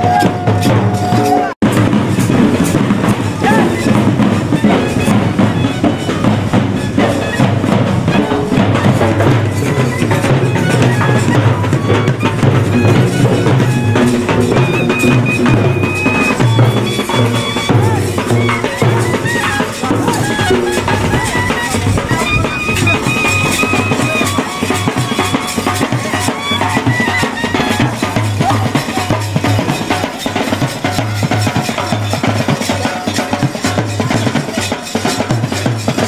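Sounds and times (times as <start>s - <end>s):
barrel drums beating rhythm: 0.0s - 36.0s.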